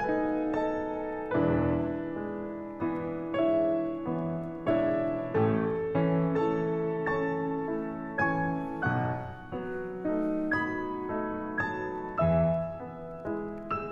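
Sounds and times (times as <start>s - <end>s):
gentle piano melody: 0.0s - 13.9s.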